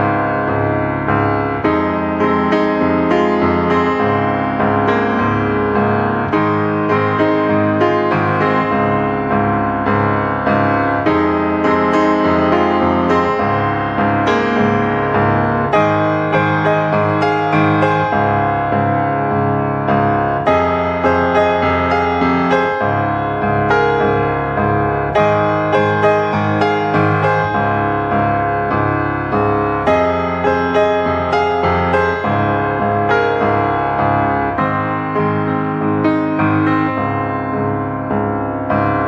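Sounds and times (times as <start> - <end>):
gentle piano music: 0.0 - 39.0.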